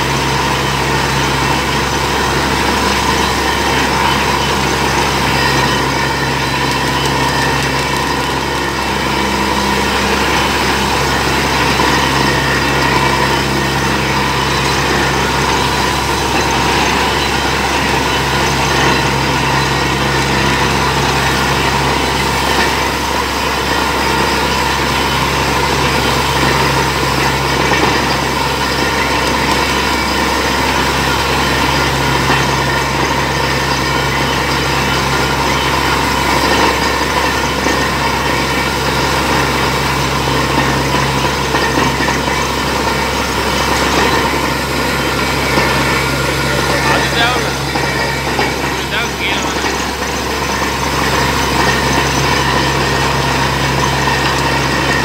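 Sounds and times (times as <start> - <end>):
drilling rig engine running: 0.0 - 55.0.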